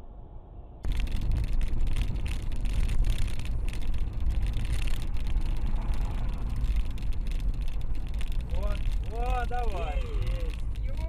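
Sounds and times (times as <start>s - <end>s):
car road and engine rumble: 0.0s - 11.0s
wind and tyre hiss: 0.0s - 11.0s.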